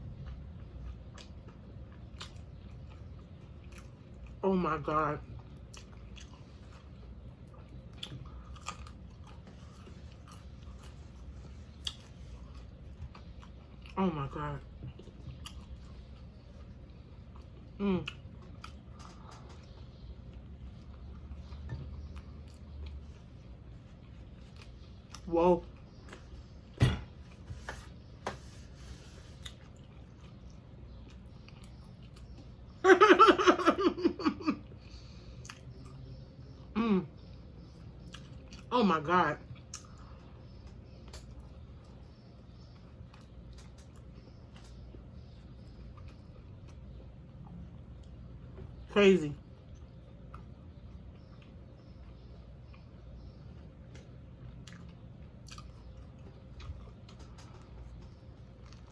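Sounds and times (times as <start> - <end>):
chewing with crunches: 0.0 - 27.5, 29.3 - 32.8, 34.6 - 58.9.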